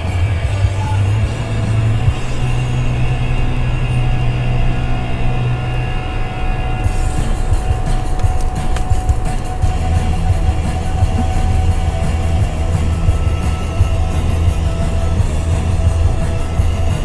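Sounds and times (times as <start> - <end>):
music playing: 0.0 - 17.0
truck engine and road drone: 0.0 - 17.0.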